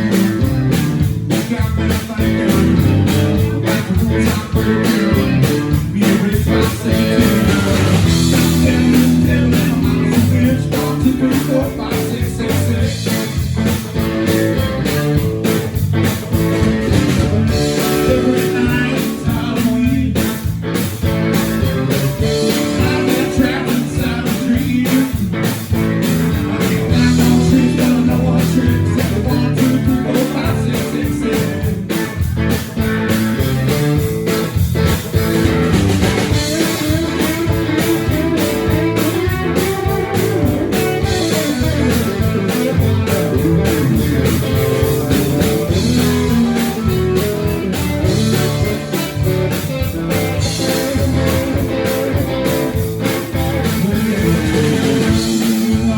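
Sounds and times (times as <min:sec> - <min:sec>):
blues-rock band playing: 0:00.0 - 0:55.9
electric guitar: 0:00.0 - 0:55.9
steady drum beat: 0:00.0 - 0:55.9.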